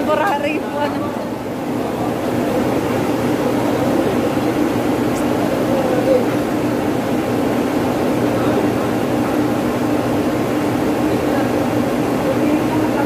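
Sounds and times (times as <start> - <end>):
muffled voices: 0.0 - 13.0.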